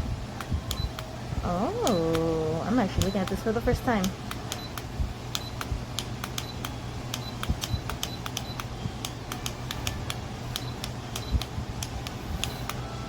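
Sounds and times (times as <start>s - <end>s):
fan humming: 0.0s - 13.0s
fan button clicking: 0.4s - 12.9s.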